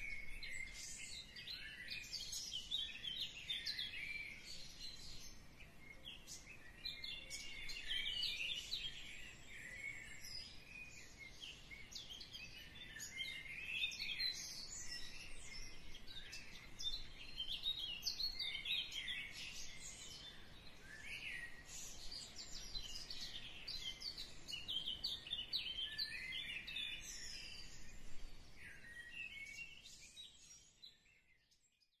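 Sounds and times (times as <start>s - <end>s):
birds chirping: 0.0s - 31.5s.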